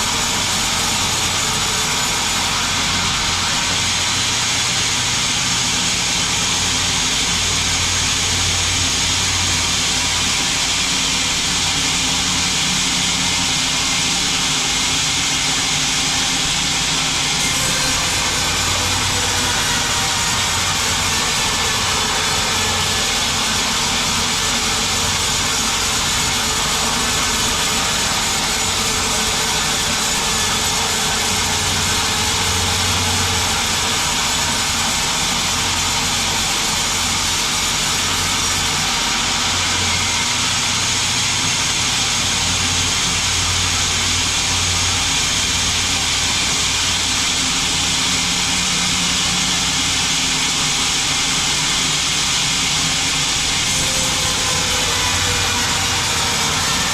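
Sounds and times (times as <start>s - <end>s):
low motor hum: 0.0s - 41.3s, 41.9s - 56.9s
band saw running: 0.0s - 56.9s.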